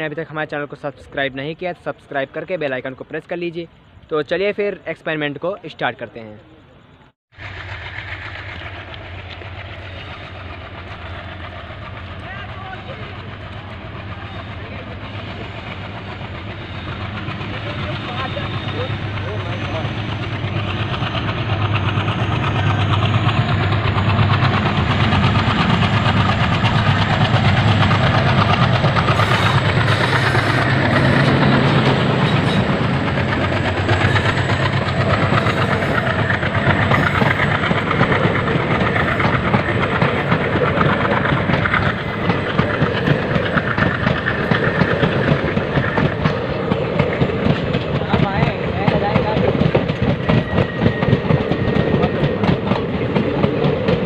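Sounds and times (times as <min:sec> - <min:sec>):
passenger train passing: 0:00.0 - 0:54.0
wheels clacking over rail joints: 0:08.4 - 0:54.0.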